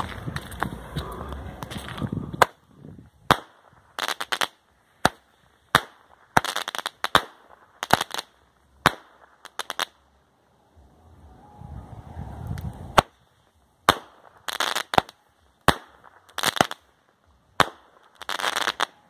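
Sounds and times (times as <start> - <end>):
crackling pops: 0.0 - 10.0, 12.4 - 19.0.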